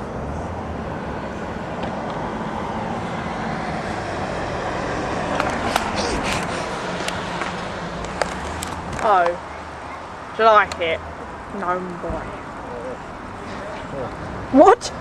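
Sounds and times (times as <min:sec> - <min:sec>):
road vehicle rumbling: 0:00.0 - 0:15.0.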